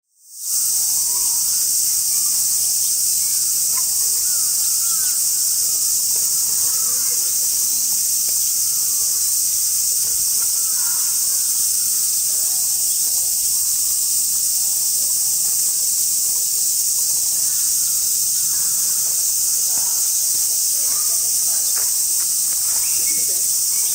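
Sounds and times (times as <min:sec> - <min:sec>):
faint insect chirps: 0:00.0 - 0:23.9
insect chorus hiss: 0:00.0 - 0:23.9.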